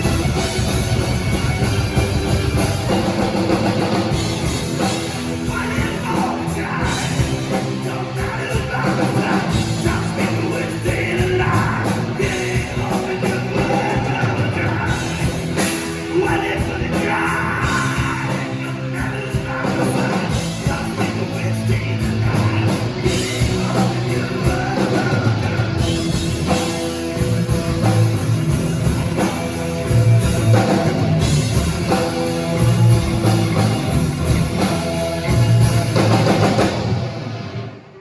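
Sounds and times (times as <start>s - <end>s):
rock music with drums and guitar: 0.0s - 38.0s.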